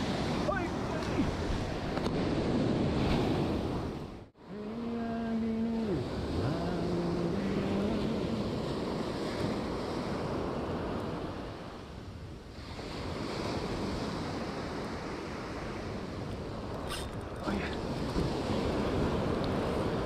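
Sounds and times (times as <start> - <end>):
surf washing up beach: 0.0 - 20.0.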